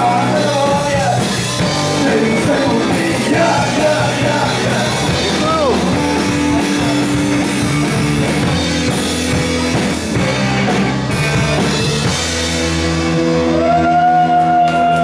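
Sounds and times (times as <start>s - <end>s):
loud live rock band: 0.0s - 15.0s.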